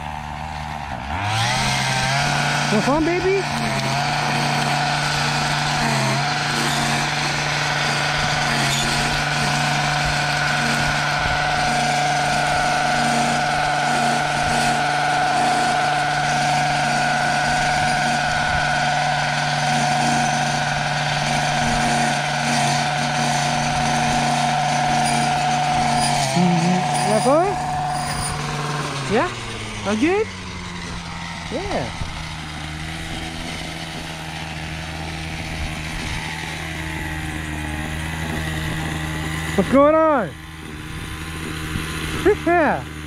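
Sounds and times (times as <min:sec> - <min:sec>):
string trimmer engine running: 0:00.0 - 0:43.0.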